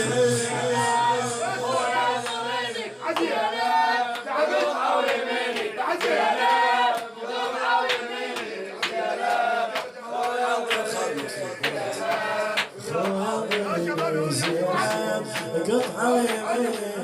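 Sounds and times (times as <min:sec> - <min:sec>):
crowd of men chanting: 0:00.0 - 0:17.0
rhythmic chest-beating strikes: 0:00.0 - 0:17.0.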